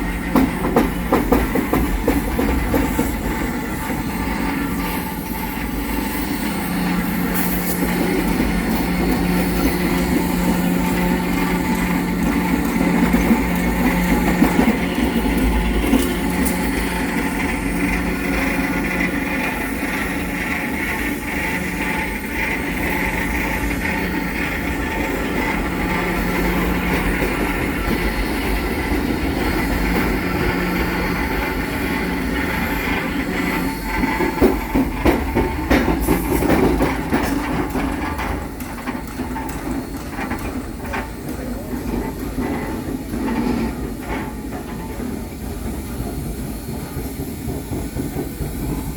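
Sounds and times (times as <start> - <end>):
steam locomotive hum and hiss: 0.0 - 48.9.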